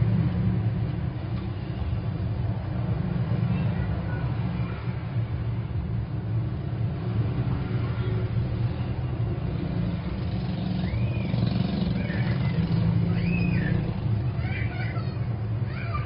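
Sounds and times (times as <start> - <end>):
low rumble of motor traffic: 0.0 - 16.0.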